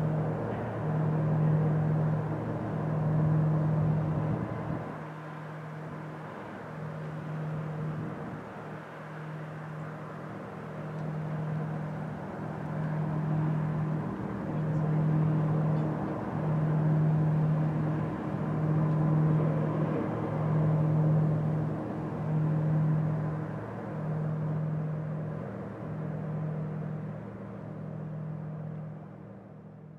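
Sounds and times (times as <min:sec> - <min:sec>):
ship diesel engine pulsing hum: 0:00.0 - 0:29.9.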